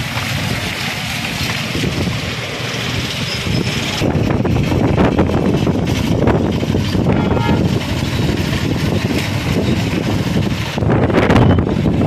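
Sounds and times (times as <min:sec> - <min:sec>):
traffic on a wet road: 0:00.0 - 0:12.0.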